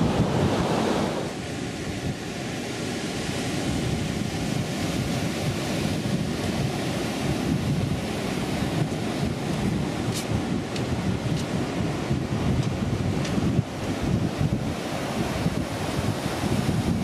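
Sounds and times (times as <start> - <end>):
ocean surf breaking: 0.0 - 17.0
wind buffeting the microphone: 0.0 - 17.0.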